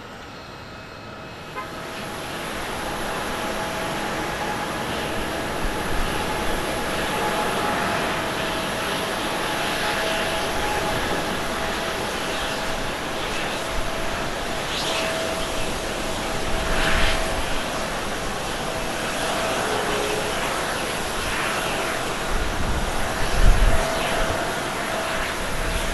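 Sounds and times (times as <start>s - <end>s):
jet engines at takeoff thrust: 0.0s - 25.9s.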